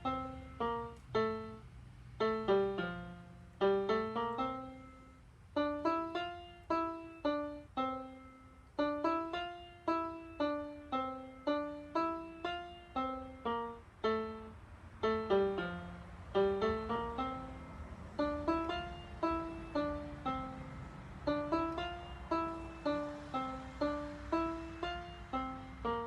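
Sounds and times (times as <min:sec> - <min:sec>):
faint low hum: 0:00.0 - 0:26.0
piano melody: 0:00.0 - 0:26.0.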